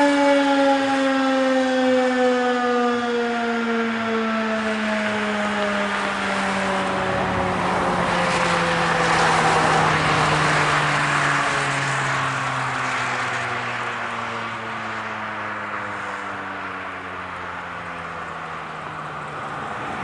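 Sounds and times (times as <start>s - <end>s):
car passing: 0.0s - 20.0s
warning siren winding down: 0.0s - 20.0s.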